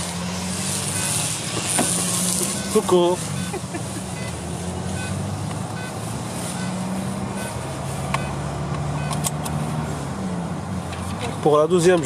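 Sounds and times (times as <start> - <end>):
car engine hum and road noise: 0.0 - 12.0.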